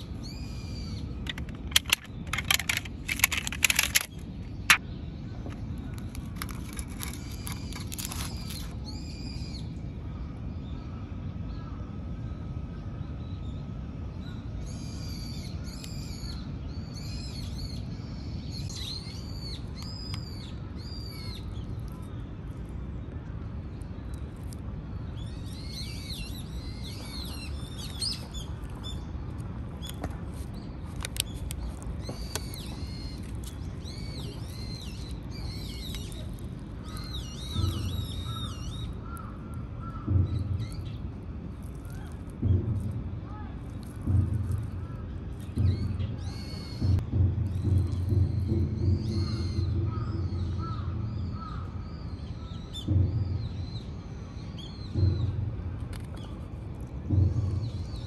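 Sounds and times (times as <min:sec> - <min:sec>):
small birds chirping: 0:00.0 - 0:10.3, 0:14.2 - 0:58.0
low outdoor background rumble: 0:00.0 - 0:58.0.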